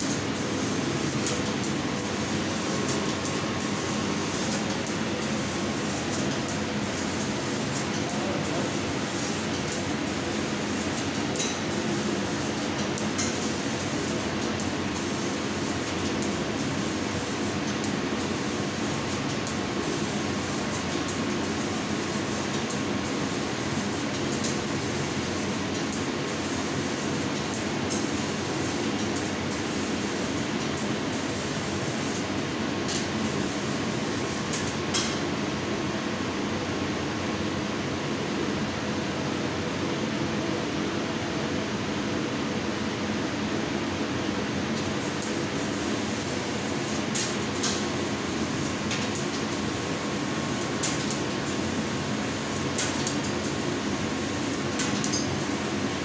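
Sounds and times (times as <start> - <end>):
laser cutting machine hiss and hum: 0.0 - 39.0, 44.0 - 56.0.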